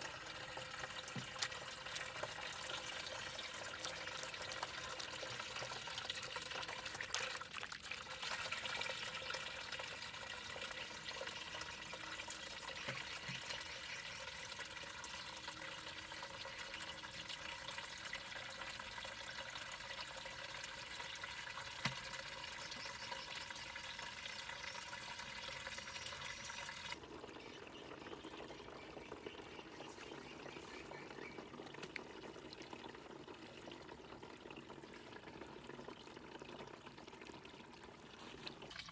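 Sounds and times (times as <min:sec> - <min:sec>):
running water pouring: 0:00.0 - 0:38.9.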